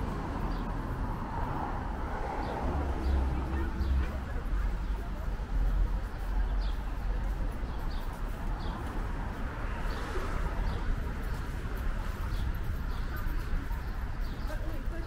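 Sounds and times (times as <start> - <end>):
steady low street rumble: 0.0 - 15.0.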